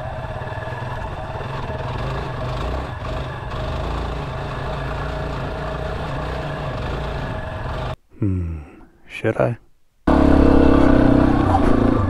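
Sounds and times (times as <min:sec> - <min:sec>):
motorcycle engine running: 0:00.0 - 0:08.0, 0:10.1 - 0:12.0.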